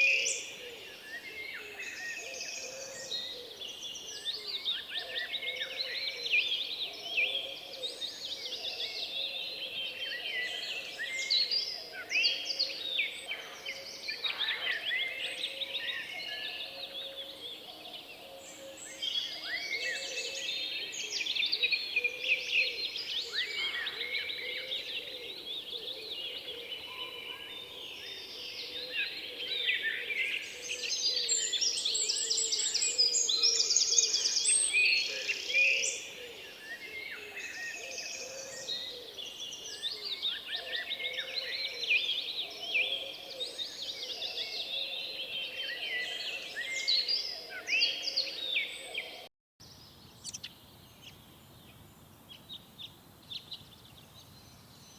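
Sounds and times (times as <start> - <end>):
many birds chirping and trilling: 0.0 - 54.9.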